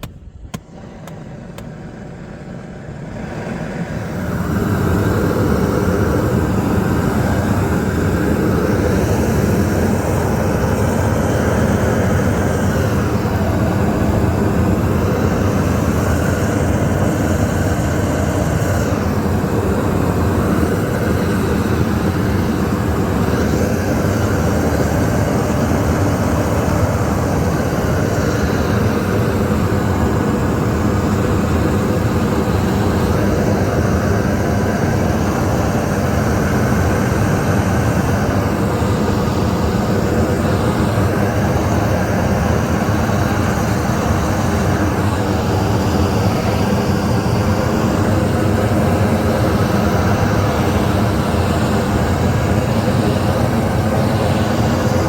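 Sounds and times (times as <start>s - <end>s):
gas torch roaring: 0.0s - 55.0s.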